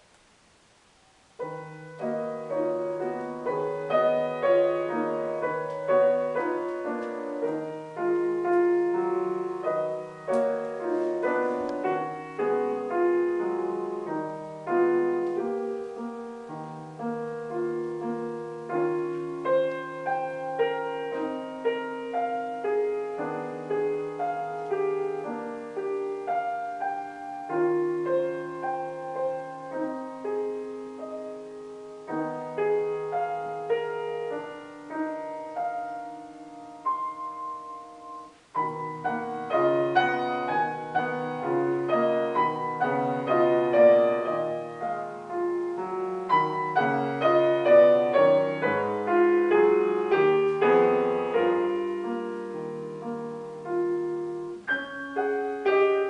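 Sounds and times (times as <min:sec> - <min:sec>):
grand piano piece: 0:00.0 - 0:56.0.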